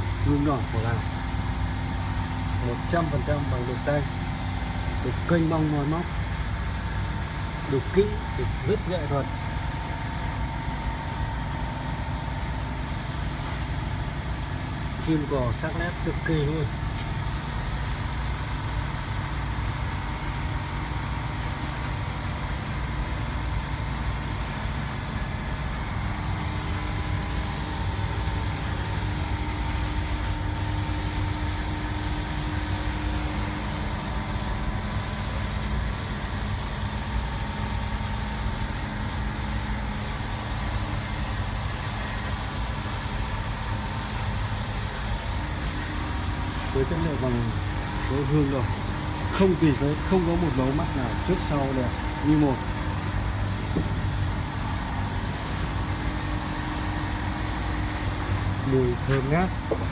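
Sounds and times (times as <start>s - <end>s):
machine rumble and hiss: 0.0s - 59.9s.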